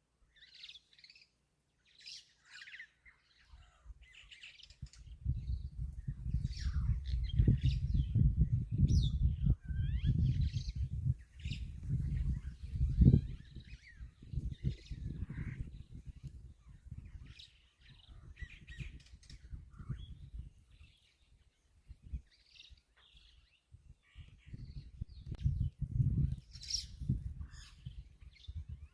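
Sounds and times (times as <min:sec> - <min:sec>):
birds chirping: 0:00.3 - 0:28.9.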